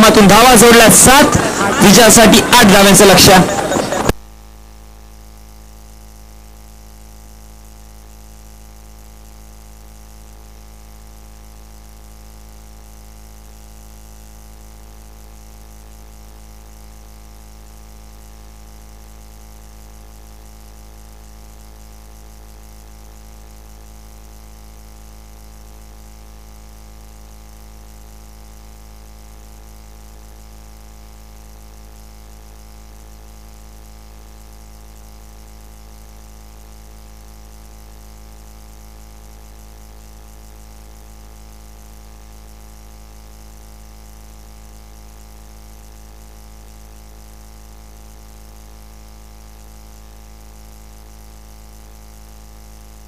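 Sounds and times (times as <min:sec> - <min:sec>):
low hum with hiss: 0:00.0 - 0:53.0.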